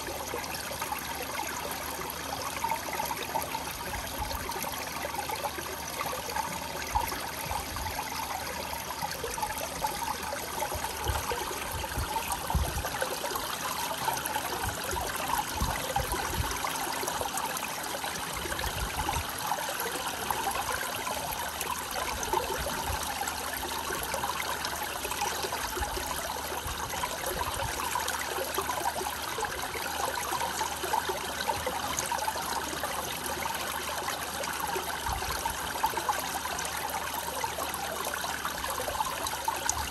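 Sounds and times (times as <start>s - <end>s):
fountain water trickling and splashing: 0.0s - 39.9s.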